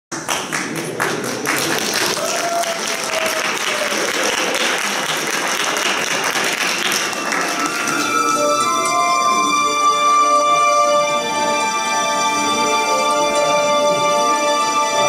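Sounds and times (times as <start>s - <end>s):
audience applauding: 0.1s - 15.0s.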